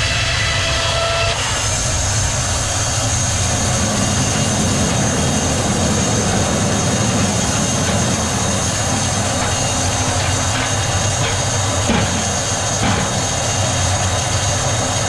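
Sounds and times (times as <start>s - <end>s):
constant high whine: 0.0s - 15.0s
sawmill machinery running: 0.1s - 15.0s.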